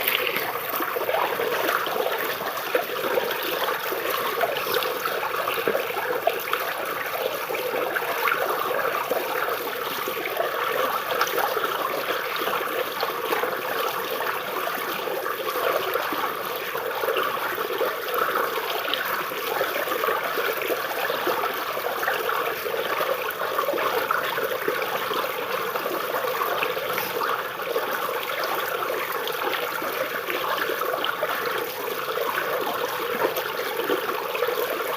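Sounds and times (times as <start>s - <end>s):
stream water babbling: 0.0s - 34.9s.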